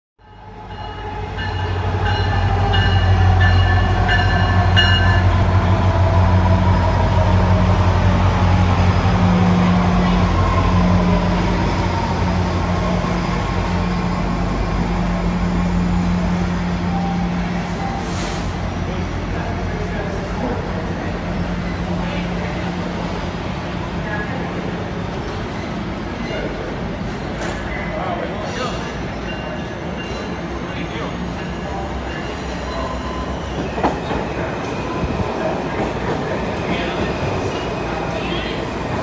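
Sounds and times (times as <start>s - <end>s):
diesel locomotive engine drone: 0.2s - 39.0s
train passing: 0.2s - 39.0s.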